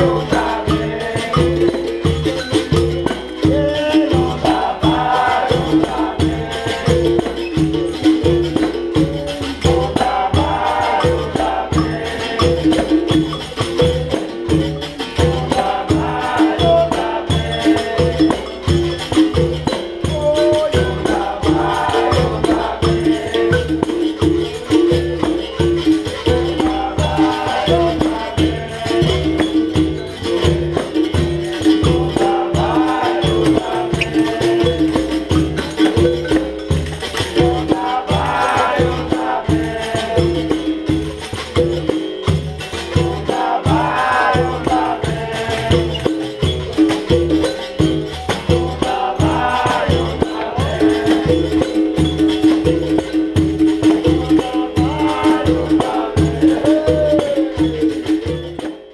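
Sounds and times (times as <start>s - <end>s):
group singing: 0.0s - 58.7s
berimbau held tone: 0.0s - 58.9s
hand drum and tambourine beat: 0.0s - 58.9s.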